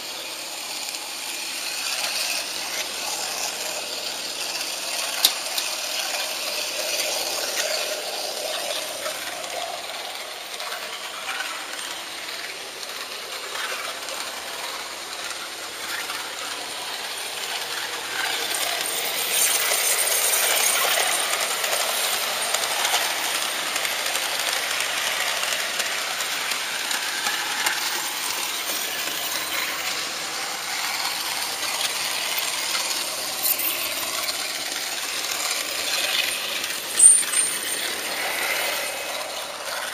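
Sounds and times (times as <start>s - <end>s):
model train wheels rattling on rails: 0.0s - 39.9s.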